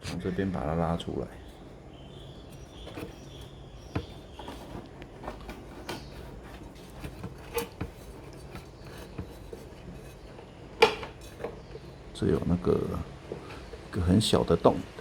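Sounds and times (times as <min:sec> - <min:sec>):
clicks and knocks of handling: 0:00.0 - 0:14.1.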